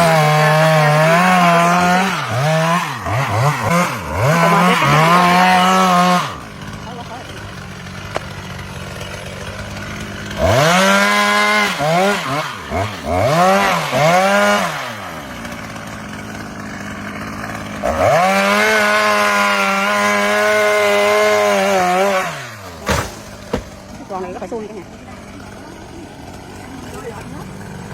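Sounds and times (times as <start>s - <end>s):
chainsaw idling and revving: 0.0s - 27.9s.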